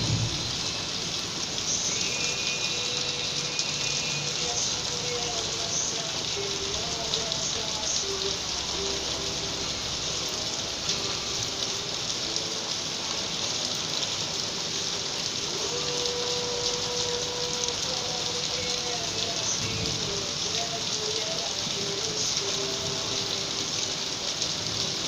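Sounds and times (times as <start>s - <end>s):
faint song playing: 0.0s - 25.0s
rain falling: 0.0s - 25.0s.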